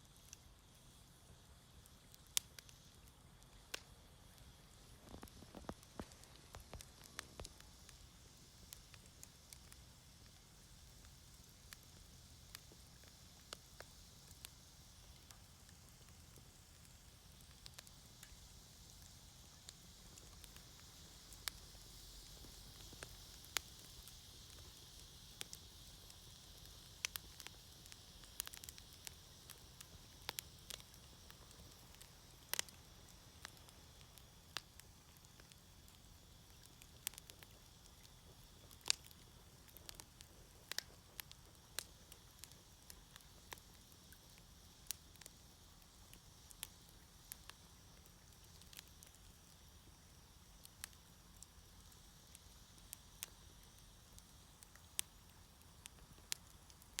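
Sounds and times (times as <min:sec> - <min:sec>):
faint steady hiss: 0:00.0 - 0:57.0
wood fire crackling and popping: 0:00.0 - 0:57.0.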